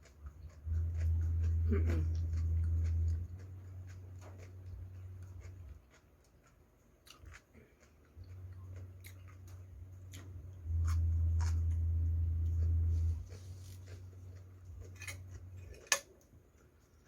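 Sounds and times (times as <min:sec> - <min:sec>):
chewing: 0:00.0 - 0:17.0
low hum: 0:00.1 - 0:05.9, 0:08.1 - 0:17.0.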